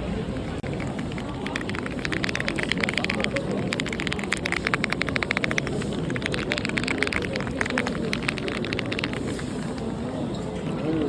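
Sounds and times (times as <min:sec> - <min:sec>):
murmur of crowd voices: 0:00.0 - 0:11.0
keyboard typing: 0:00.4 - 0:09.9.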